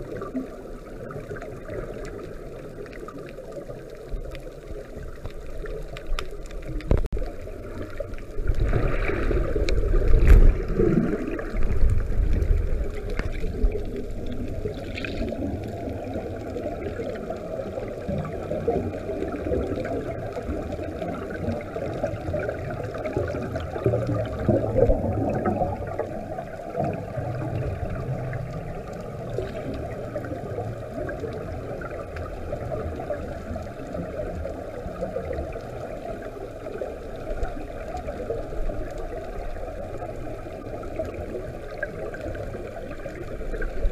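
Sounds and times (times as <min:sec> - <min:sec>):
underwater regulator bubbles gurgling: 0:00.0 - 0:43.9.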